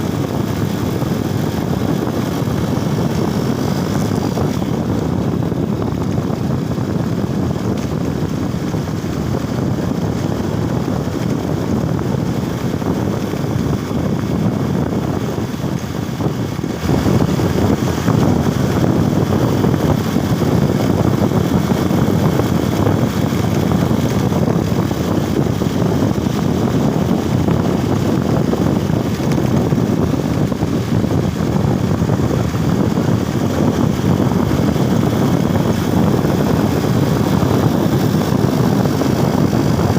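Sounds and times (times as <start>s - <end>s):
motorcycle engine rumbling: 0.0s - 39.9s
wind rushing over microphone: 0.0s - 39.9s.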